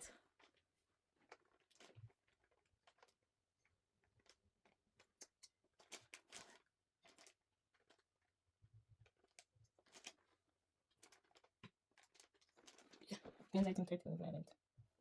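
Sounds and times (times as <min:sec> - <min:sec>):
small clicks and rustles of handling: 0:00.2 - 0:14.1.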